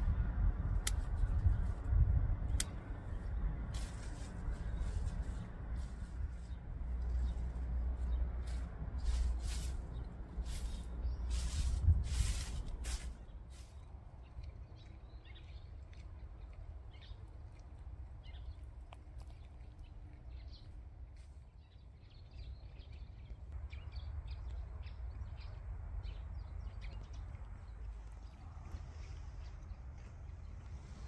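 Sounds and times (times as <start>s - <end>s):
low steady rumble: 0.0s - 31.0s
small birds chirping: 2.5s - 31.0s.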